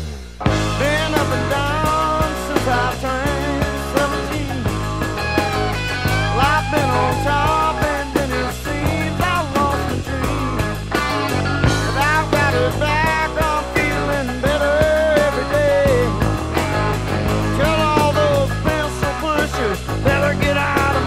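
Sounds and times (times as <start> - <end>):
drum and bass beat: 0.0 - 21.0
electric guitar bending notes: 0.0 - 21.0.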